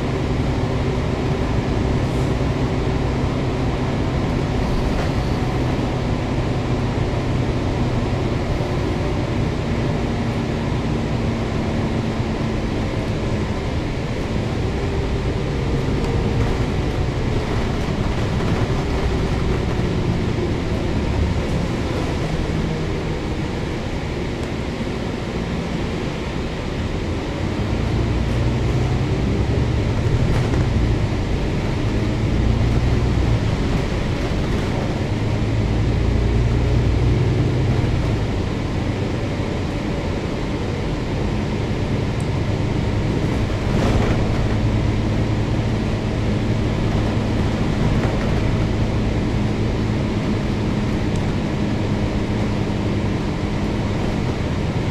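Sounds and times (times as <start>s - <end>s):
tyre and wind noise: 0.0s - 24.2s, 26.8s - 54.9s
diesel bus engine drone: 0.0s - 54.9s.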